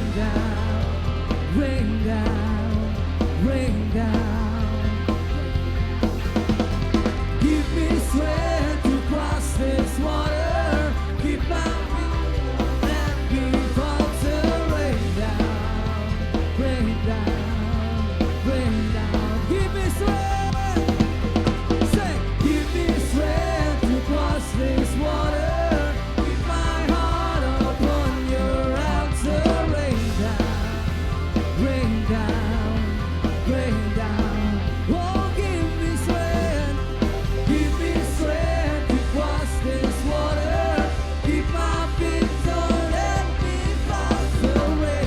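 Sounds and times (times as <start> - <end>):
drum kit: 0.0 - 45.0
rock band playing: 0.0 - 45.0
steady bass: 0.0 - 45.0
person singing: 7.4 - 45.0.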